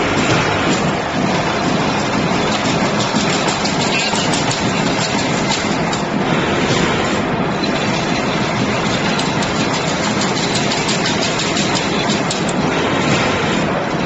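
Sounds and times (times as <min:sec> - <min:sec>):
weaving machine clattering: 0:00.0 - 0:14.0.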